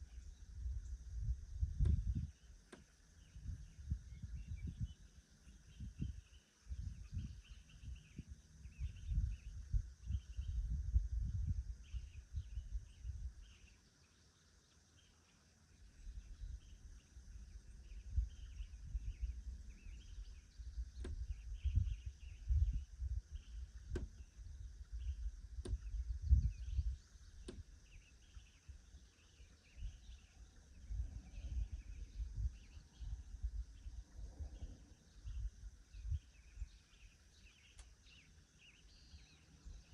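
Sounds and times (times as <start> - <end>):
wind gusts on microphone: 0.0 - 2.5, 3.2 - 13.6, 16.0 - 29.0, 29.6 - 36.8
insects chirping: 0.0 - 39.9
birds chirping: 1.8 - 39.9.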